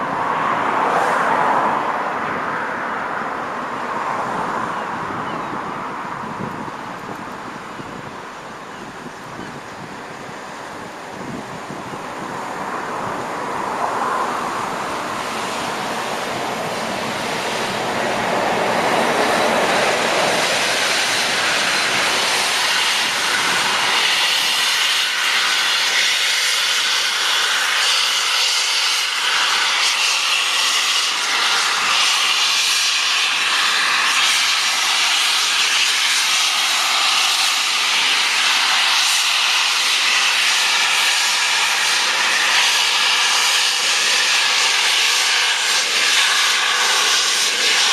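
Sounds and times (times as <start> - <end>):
steam hissing from locomotive: 9.1 - 47.9.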